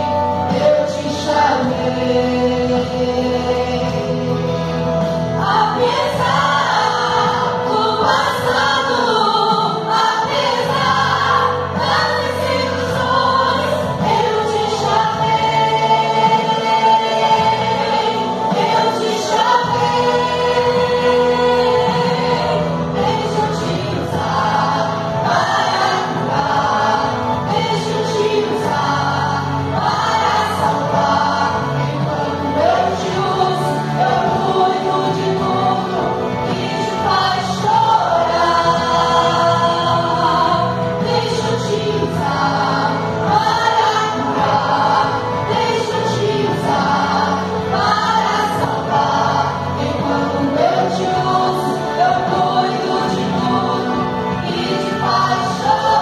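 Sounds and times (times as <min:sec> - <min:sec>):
vocal trio singing gospel song: 0:00.0 - 0:56.0.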